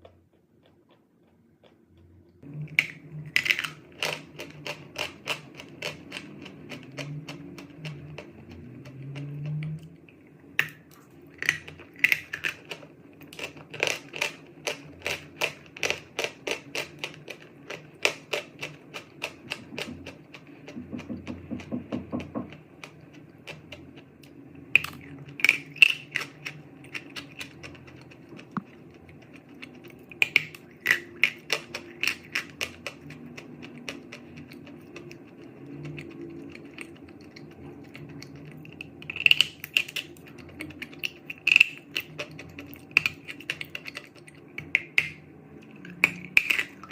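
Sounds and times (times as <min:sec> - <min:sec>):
chalk being chewed crunching: 0:00.0 - 0:20.8, 0:22.8 - 0:46.9.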